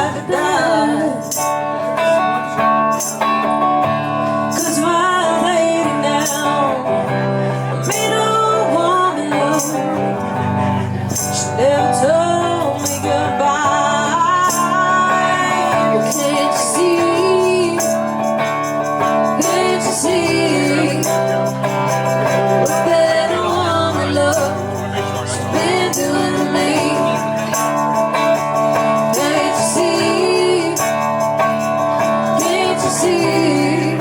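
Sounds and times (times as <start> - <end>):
lead guitar with bending notes: 0.0 - 34.0
live band playing instrumental: 0.0 - 34.0.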